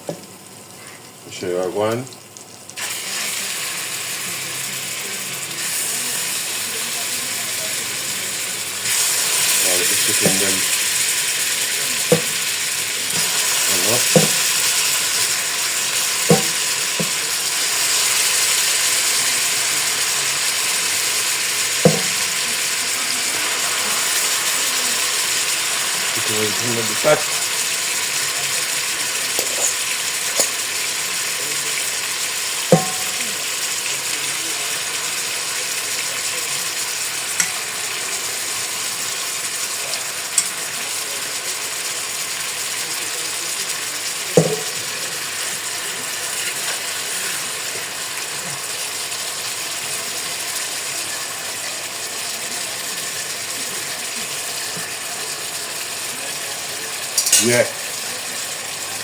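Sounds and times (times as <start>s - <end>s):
chicken sizzling in a pot: 0.0s - 59.0s.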